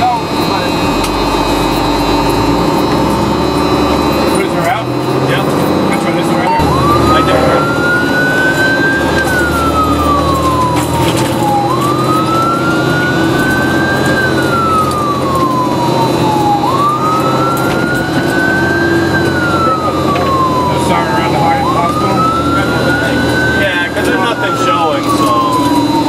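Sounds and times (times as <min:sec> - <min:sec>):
engine droning: 0:00.0 - 0:26.0
fire engine siren wailing: 0:00.0 - 0:26.0.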